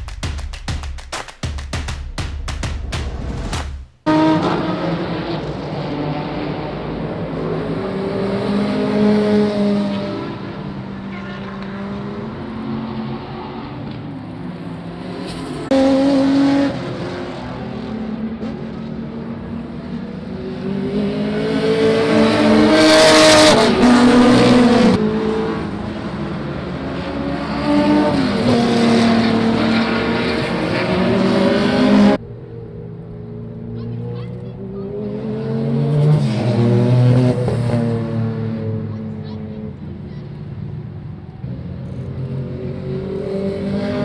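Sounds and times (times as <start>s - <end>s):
racing car engines at full throttle: 3.4s - 44.0s.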